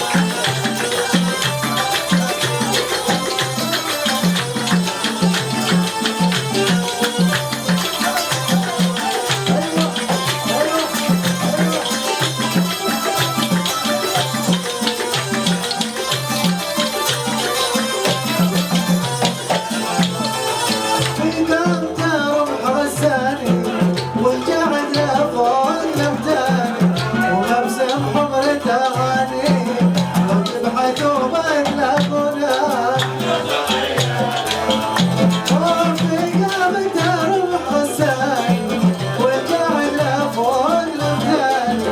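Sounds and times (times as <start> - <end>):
live wedding music with percussion: 0.0 - 41.9.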